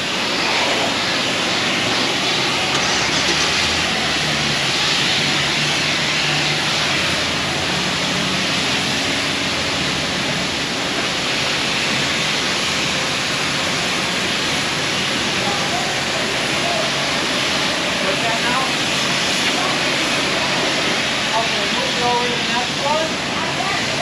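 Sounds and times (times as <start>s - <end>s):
pressure washer spraying water: 0.0s - 24.0s.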